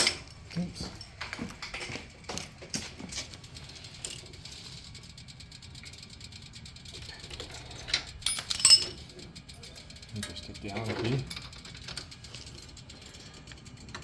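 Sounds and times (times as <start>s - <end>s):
metal hardware clicking and rattling: 0.0s - 14.0s.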